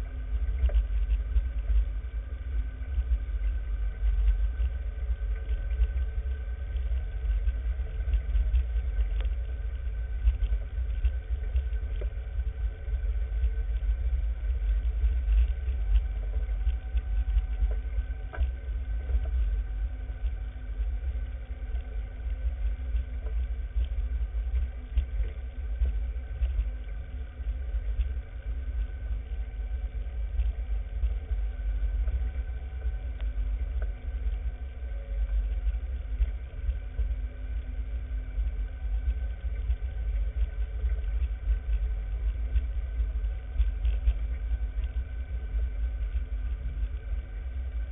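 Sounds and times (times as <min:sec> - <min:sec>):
low rumble over rocks: 0:00.0 - 0:47.9.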